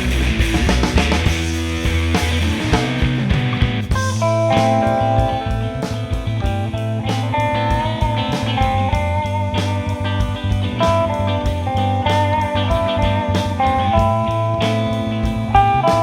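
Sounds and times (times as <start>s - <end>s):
drum beat: 0.0s - 14.2s
bass line: 0.0s - 16.0s
electric guitar lead notes: 0.0s - 16.0s
rock band playing: 0.0s - 16.0s.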